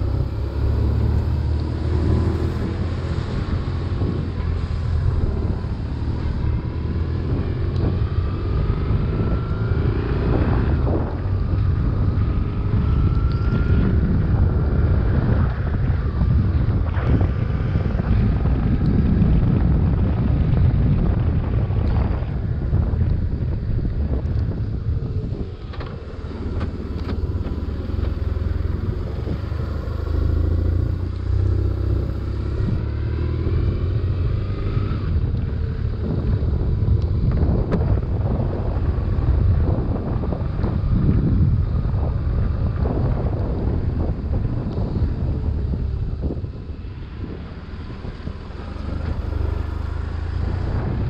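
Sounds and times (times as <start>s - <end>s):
motorcycle engine running: 0.0s - 51.0s
wind rushing over microphone: 0.0s - 51.0s.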